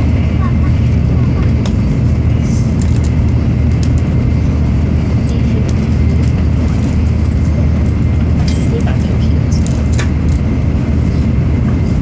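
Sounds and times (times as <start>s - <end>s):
train rumble and hiss: 0.0s - 12.0s.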